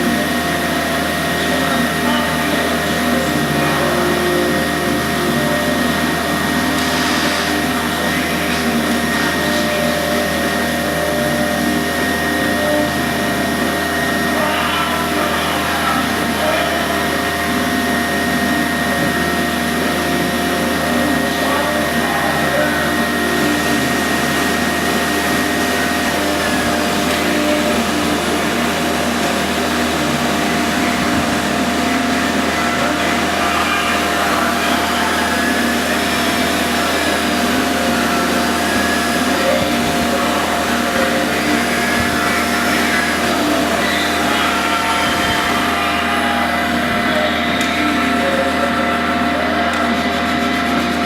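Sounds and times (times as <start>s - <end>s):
high held tone: 0.0s - 51.0s
low held tone: 0.0s - 51.0s
mechanical drone: 0.0s - 51.0s.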